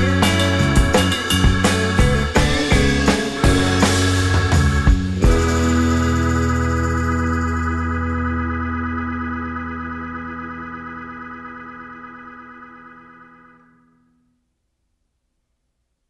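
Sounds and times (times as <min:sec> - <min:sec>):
organ chord: 0:00.0 - 0:14.1.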